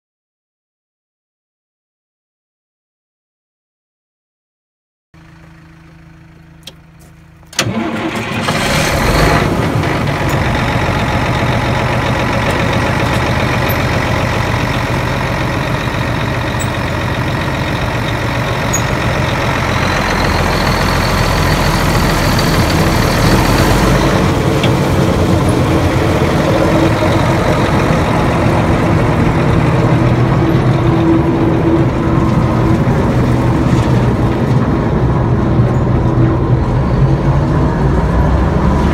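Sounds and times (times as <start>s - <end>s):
loud diesel engine running: 5.2s - 38.9s.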